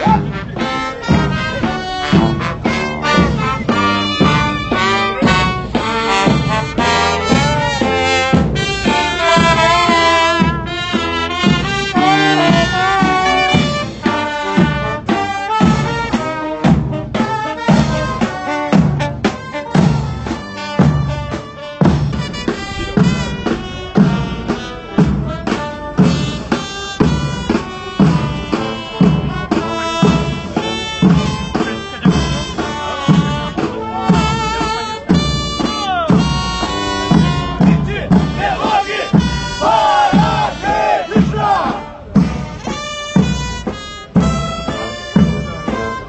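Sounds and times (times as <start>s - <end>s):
drums beating: 0.0s - 46.0s
marching band playing: 0.0s - 46.0s.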